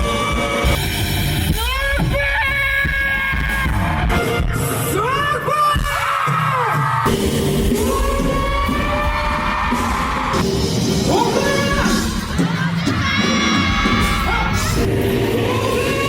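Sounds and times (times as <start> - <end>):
rock band with drums: 0.0 - 16.0.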